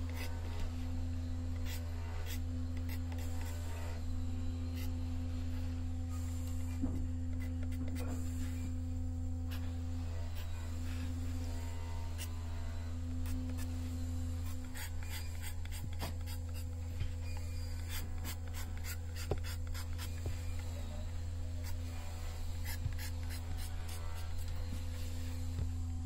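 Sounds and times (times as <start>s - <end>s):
tool scraping wood: 0.0s - 25.8s
low electric motor hum: 0.0s - 26.0s.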